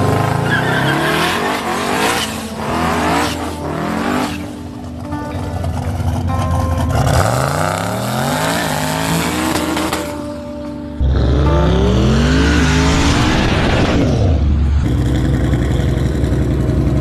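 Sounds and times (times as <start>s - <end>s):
truck engines revving hard: 0.0s - 5.0s, 5.6s - 10.3s, 11.0s - 17.0s.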